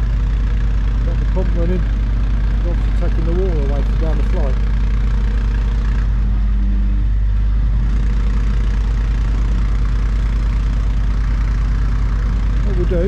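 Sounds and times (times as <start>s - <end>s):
pump engine droning: 0.0s - 13.0s.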